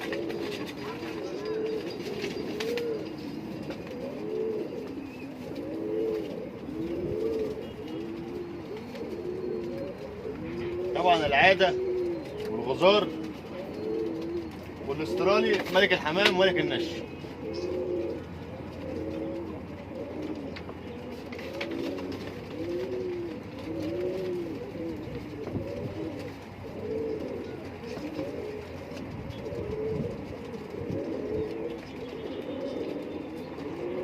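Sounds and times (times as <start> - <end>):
pigeons cooing: 0.0 - 34.0.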